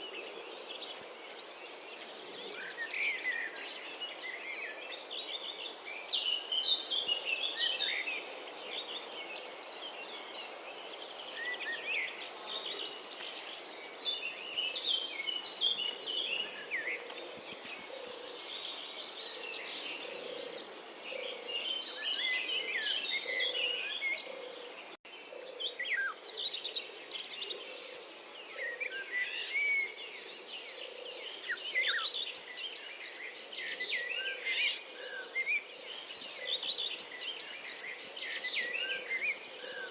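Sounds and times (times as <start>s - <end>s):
outdoor background noise: 0.0s - 39.9s
robin singing: 0.0s - 39.9s.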